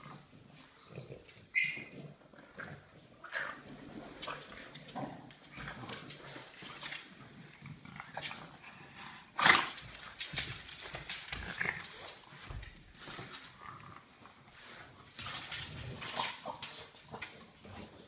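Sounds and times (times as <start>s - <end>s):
dogs licking and snuffling: 0.0s - 18.0s.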